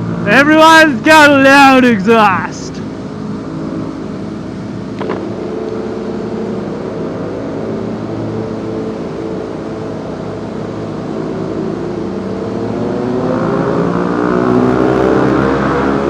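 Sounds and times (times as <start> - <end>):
motorcycle engine accelerating: 2.8 - 16.0.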